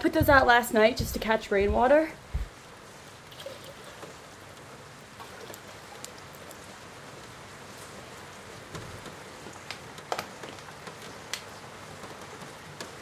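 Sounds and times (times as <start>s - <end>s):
rain on wooden deck: 0.0s - 13.0s.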